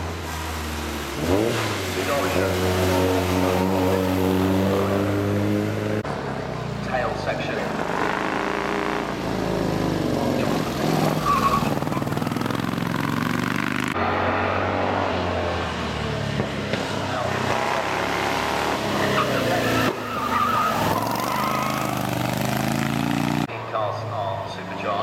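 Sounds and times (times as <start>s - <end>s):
racing car engines accelerating: 0.0s - 25.0s.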